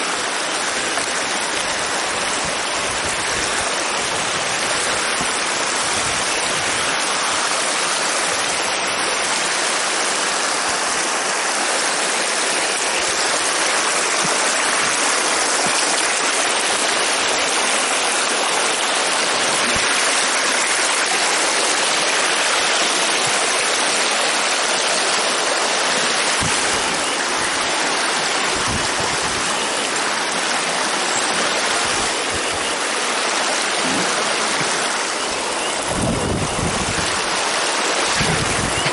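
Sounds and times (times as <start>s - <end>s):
water rushing over a dam: 0.0s - 38.9s.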